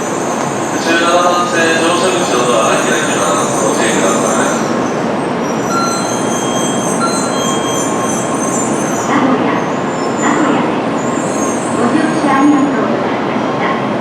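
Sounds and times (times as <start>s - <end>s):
train rushing past: 0.0s - 14.0s.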